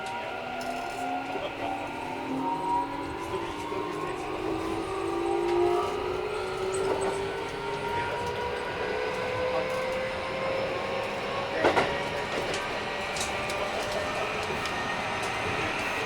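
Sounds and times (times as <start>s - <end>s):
rail noise: 0.0s - 16.0s
train motors whining: 0.0s - 16.0s.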